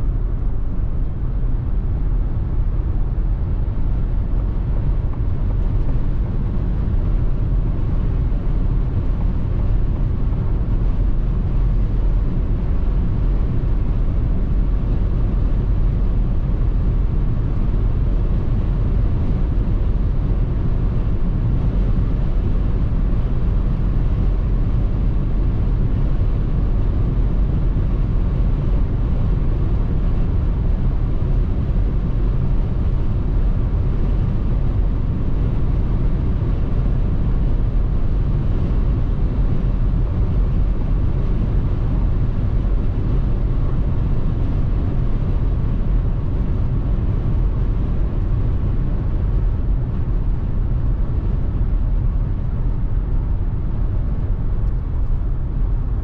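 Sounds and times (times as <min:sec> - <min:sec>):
tyre roar inside car: 0:00.0 - 0:56.0
wind noise inside car: 0:00.0 - 0:56.0.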